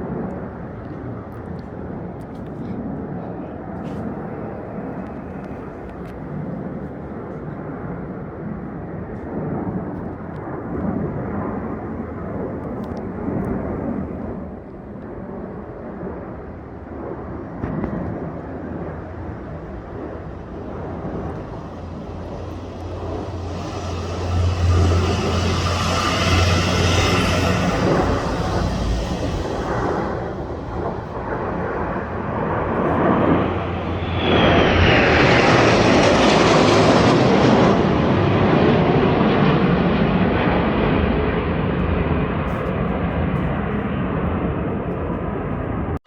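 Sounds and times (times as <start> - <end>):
aircraft engine rumble: 0.0 - 46.0.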